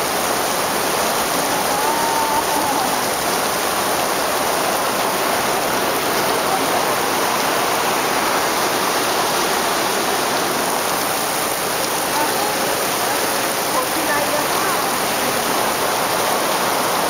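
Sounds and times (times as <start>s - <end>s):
heavy rain pouring: 0.0s - 17.0s
water running over street: 0.0s - 17.0s.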